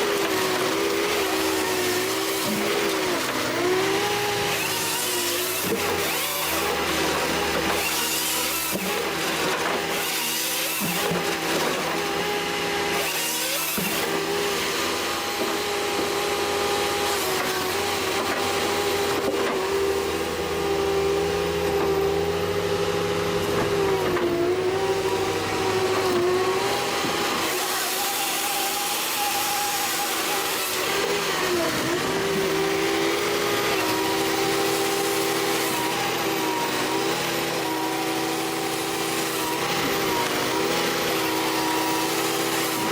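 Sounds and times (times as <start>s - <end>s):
cutting noise: 0.0s - 42.9s
machine engine whining at high revs: 0.0s - 42.9s.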